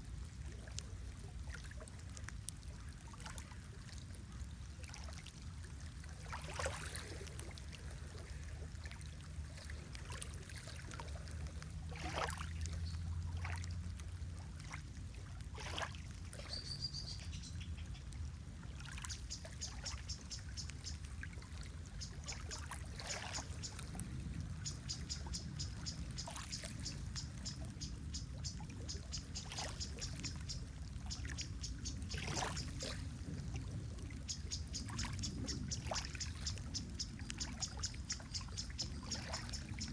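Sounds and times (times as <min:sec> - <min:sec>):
lake water lapping at shore: 0:00.0 - 0:39.9.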